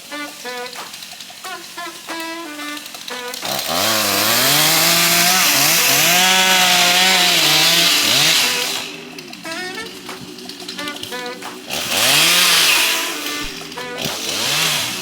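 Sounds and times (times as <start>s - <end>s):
chainsaw cutting into tree: 0.1s - 15.0s.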